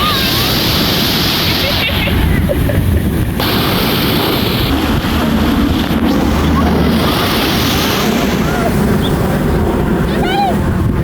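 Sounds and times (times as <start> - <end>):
heavy low rumble: 0.0 - 11.0
ocean surf rushing: 0.0 - 11.0
wind buffeting microphone: 0.0 - 11.0.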